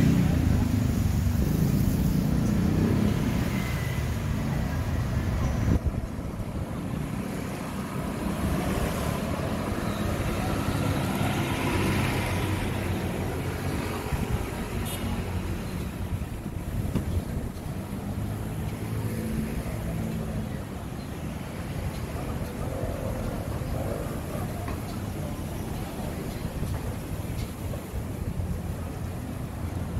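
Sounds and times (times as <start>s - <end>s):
vehicle engines in traffic: 0.0s - 29.9s.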